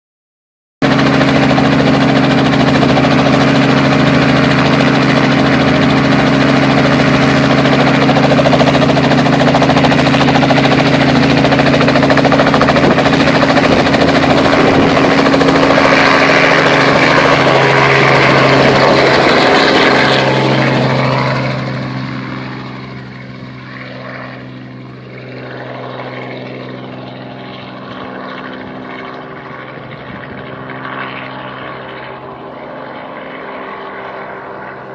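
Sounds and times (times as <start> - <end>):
helicopter engine and rotor: 0.8 - 34.9.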